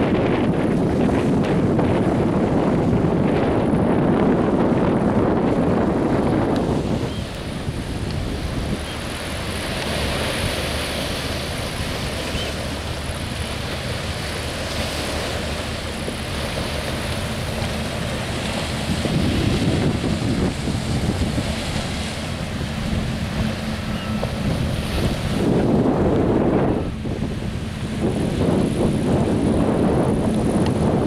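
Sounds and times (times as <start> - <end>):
wind buffeting microphone: 0.0 - 31.0
small waves on rocky shore: 5.8 - 31.0.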